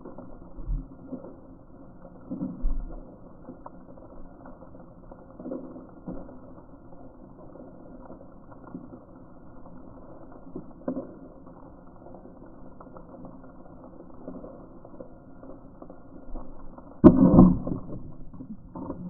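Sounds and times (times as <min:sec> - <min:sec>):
muffled underwater wash: 0:00.0 - 0:19.0.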